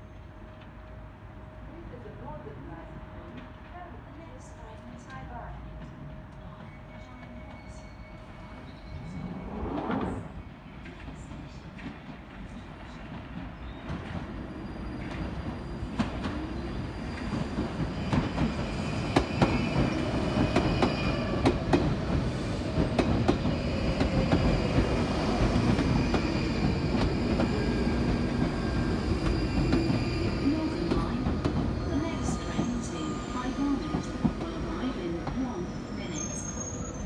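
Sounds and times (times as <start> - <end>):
train pulling into platform: 0.0 - 37.0.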